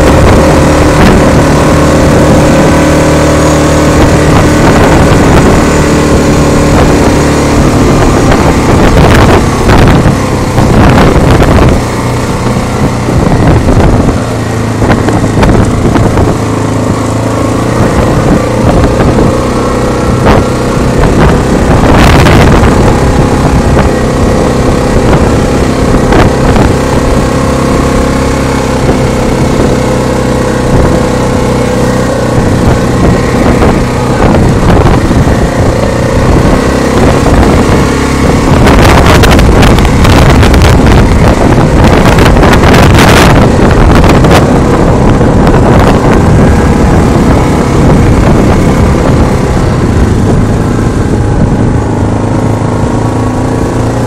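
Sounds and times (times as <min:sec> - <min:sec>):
quad engine running: 0:00.0 - 0:54.0
wind buffeting microphone: 0:00.0 - 0:54.0.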